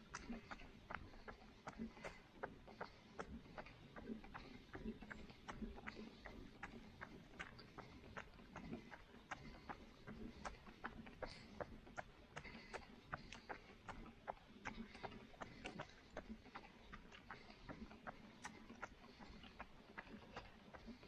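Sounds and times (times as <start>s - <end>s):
running footsteps on road: 0.0s - 21.0s.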